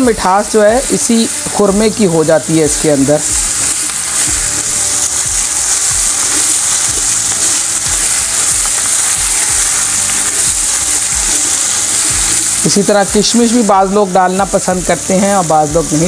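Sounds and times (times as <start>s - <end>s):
noodles sizzling in a pot: 0.0s - 16.0s.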